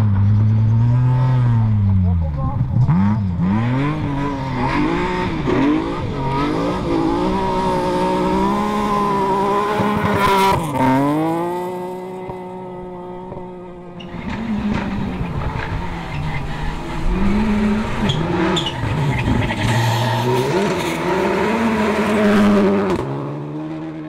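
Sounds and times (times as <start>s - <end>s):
rally car engine revving: 0.0s - 24.0s
second rally car engine: 0.0s - 24.0s.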